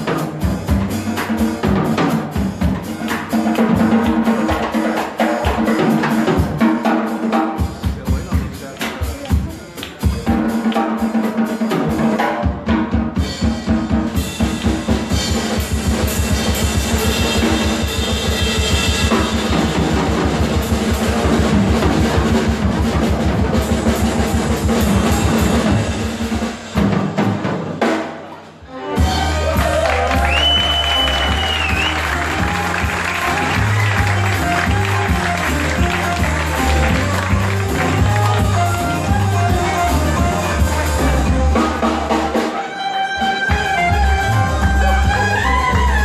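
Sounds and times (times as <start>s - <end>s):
fast drum kit beat: 0.0s - 46.0s
live folk band playing: 0.0s - 46.0s.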